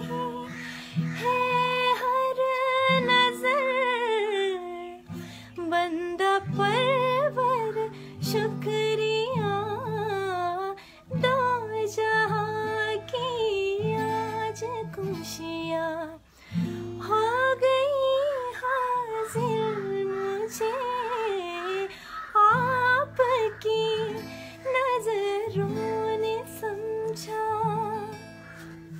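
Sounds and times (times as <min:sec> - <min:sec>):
woman singing: 0:00.0 - 0:28.9.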